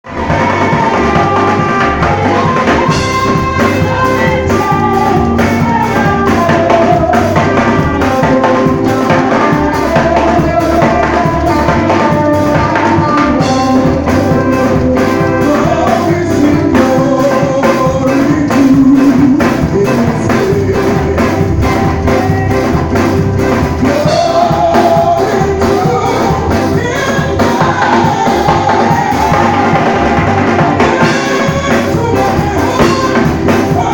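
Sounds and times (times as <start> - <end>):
drum kit beat: 0.0 - 33.9
guitar: 0.0 - 33.9
keyboard: 0.0 - 33.9
voices singing: 0.0 - 33.9.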